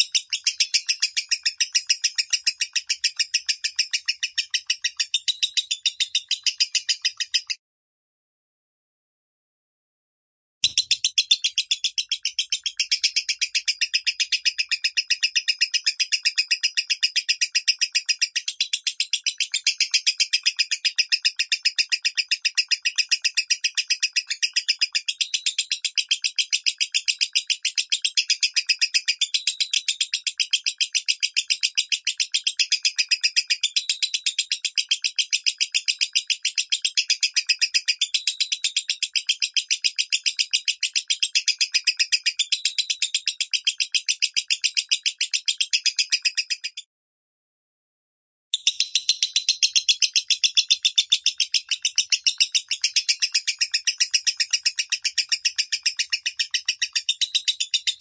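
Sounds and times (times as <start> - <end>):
lovebird chirping: 0.0 - 7.6, 10.6 - 46.9, 48.6 - 58.0.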